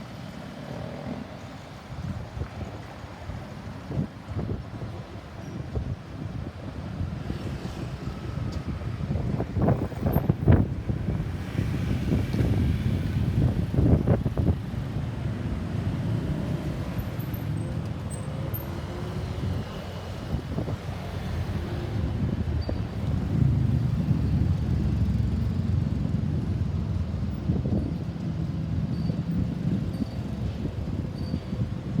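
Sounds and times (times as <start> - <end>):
passing vehicles rumbling: 6.0 - 32.0.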